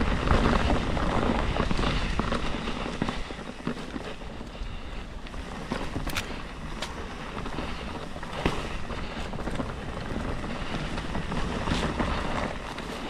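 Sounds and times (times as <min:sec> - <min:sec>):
bike knocking and rattling: 0:00.0 - 0:13.0
wind on microphone: 0:00.0 - 0:13.0.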